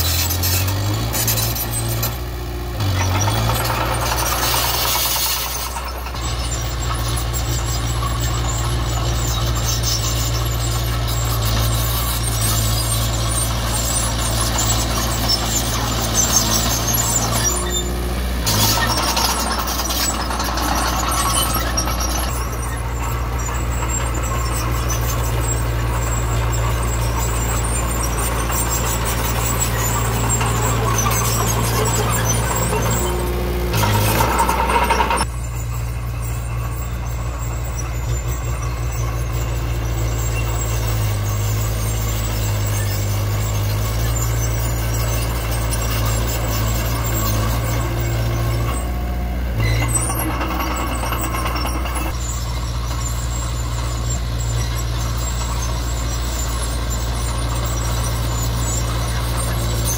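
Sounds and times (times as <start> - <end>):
bulldozer diesel engine running: 0.0 - 59.9
steel tracks squealing and clattering: 0.0 - 59.9.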